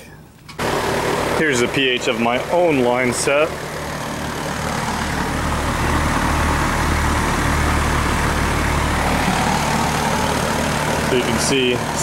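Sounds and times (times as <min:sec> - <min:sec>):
compressor hum: 0:00.0 - 0:12.0
fan rushing: 0:00.0 - 0:12.0.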